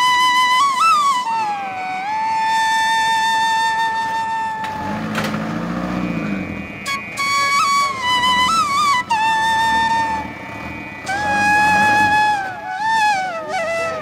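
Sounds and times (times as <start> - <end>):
flute music: 0.0 - 14.0.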